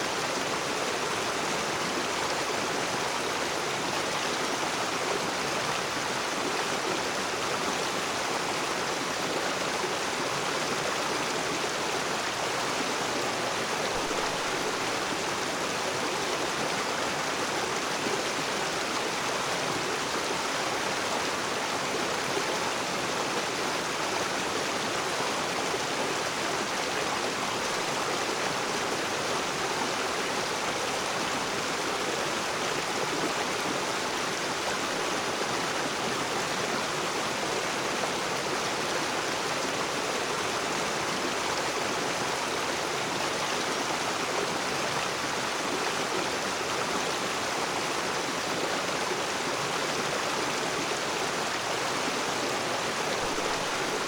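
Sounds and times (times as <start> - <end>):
river water over rocks: 0.0 - 54.0.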